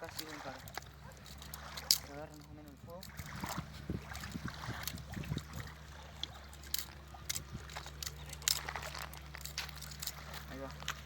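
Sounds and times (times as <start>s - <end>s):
twigs cracking and rustling: 0.0s - 5.5s, 6.1s - 11.0s.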